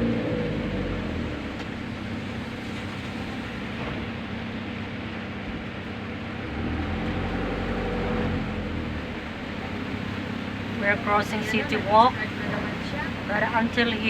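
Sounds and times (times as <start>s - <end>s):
low engine hum: 0.0s - 14.0s
tyres hissing on wet road: 0.0s - 14.0s.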